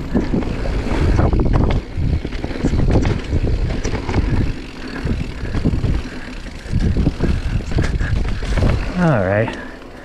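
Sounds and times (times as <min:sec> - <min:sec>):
bike clicks and rattles: 0:00.0 - 0:10.0
wind and tyre rumble: 0:00.0 - 0:10.0.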